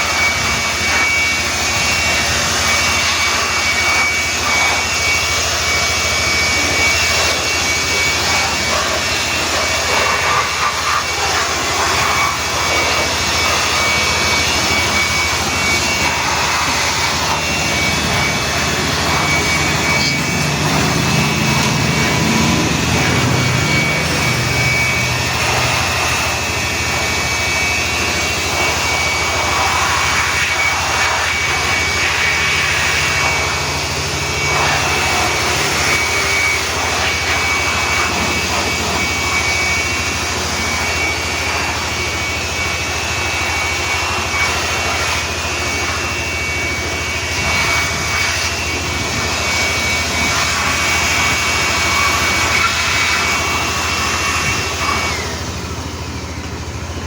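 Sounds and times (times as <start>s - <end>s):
car wash rushing hiss: 0.0s - 57.0s
high-pitched machine whine: 0.0s - 57.0s.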